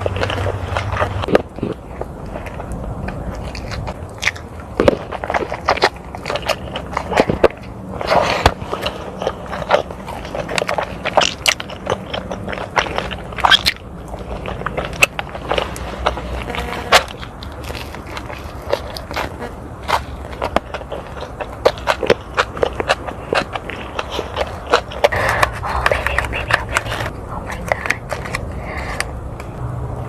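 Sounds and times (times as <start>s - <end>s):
person chewing crunchy food: 0.0s - 29.7s.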